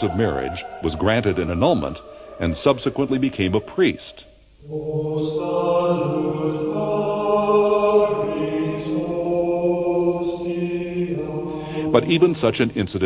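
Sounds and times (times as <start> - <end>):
men chanting on held notes: 0.0 - 13.0.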